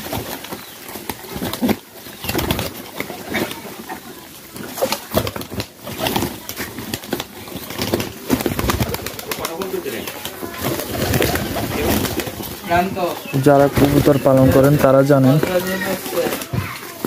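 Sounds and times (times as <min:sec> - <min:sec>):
pigeons cooing: 0:00.0 - 0:17.0
pigeons pecking grain: 0:00.0 - 0:17.0
wing flaps: 0:00.0 - 0:17.0.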